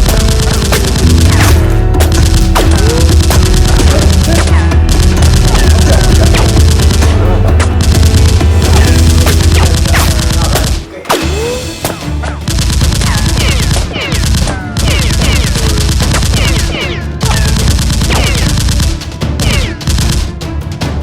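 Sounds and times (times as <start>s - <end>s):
rapid gunfire with ricochets: 0.0s - 20.4s
background music: 0.0s - 21.0s.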